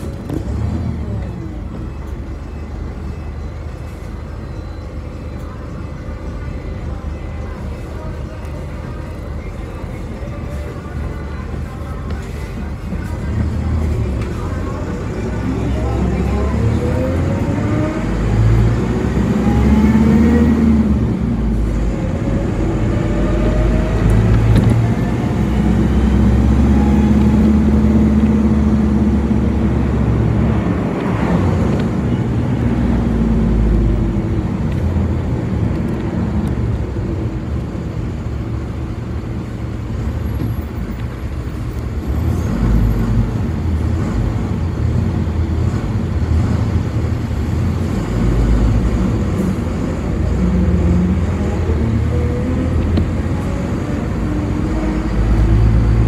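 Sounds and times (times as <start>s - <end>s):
bus engine whine and drone: 0.0s - 56.0s
road rumble: 0.0s - 56.0s.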